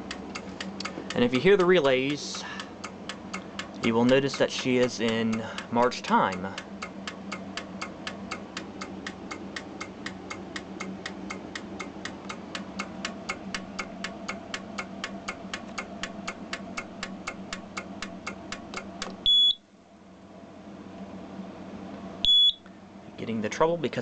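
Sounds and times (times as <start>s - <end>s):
relays clicking: 0.0s - 19.3s
low steady hum: 0.0s - 24.0s.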